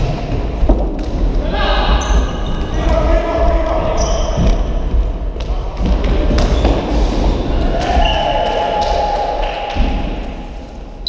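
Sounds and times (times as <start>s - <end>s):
players' voices: 1.1s - 10.4s.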